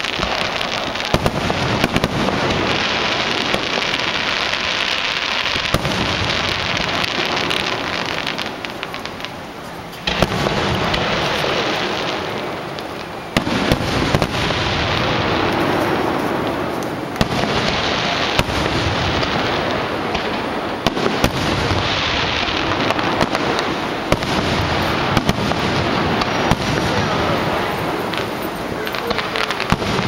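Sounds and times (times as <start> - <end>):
firework shells bursting: 0.0 - 30.0
fireworks hiss and crackle: 0.0 - 30.0.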